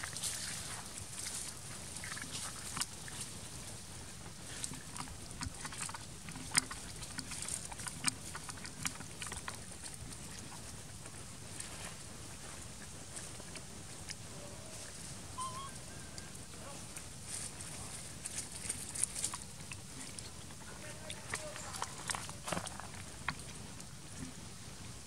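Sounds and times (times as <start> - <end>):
monkey chewing with wet smacking: 0.0 - 25.0.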